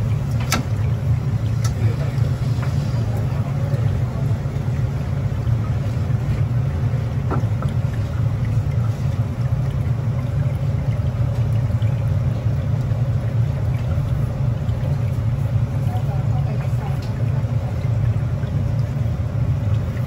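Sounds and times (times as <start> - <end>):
low rumble of kitchen equipment: 0.0 - 20.0.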